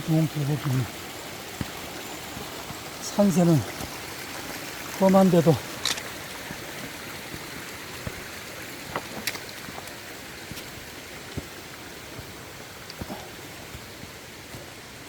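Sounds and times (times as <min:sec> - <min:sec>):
stream running: 0:00.0 - 0:15.0.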